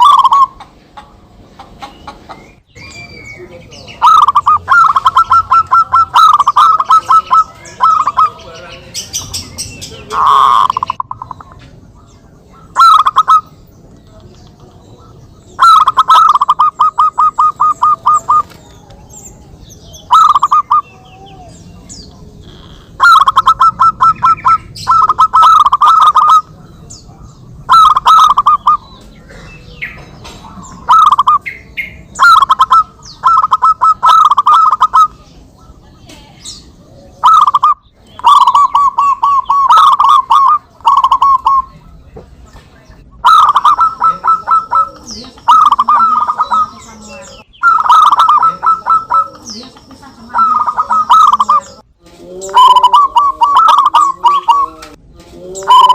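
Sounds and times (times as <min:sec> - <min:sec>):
doves cooing: 0:00.0 - 0:13.9, 0:14.8 - 0:35.9, 0:36.5 - 0:42.0, 0:43.0 - 0:55.9.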